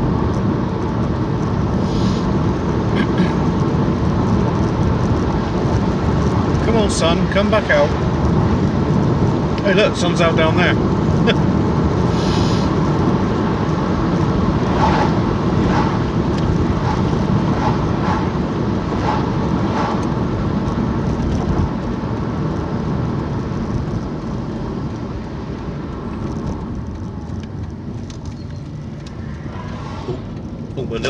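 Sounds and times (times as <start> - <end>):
road and engine noise: 0.0 - 31.0.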